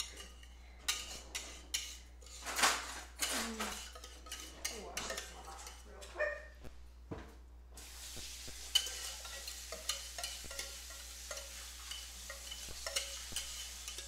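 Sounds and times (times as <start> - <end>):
spatula scraping metal pan: 0.0 - 6.1, 7.8 - 14.0.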